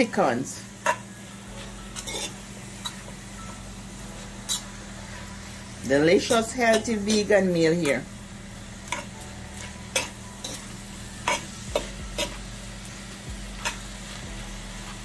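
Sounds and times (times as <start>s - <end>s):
vegetables sizzling in skillet: 0.0s - 15.0s.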